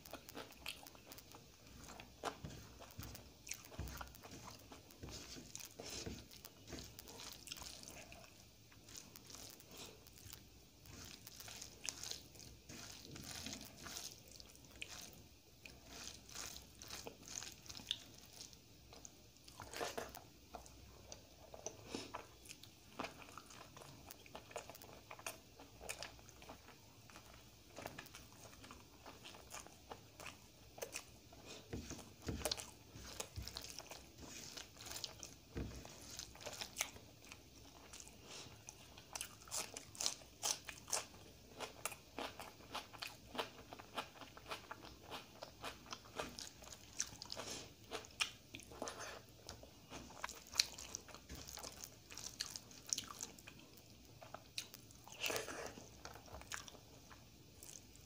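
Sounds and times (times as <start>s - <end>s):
wet mixing of food by hand: 0.0s - 58.0s.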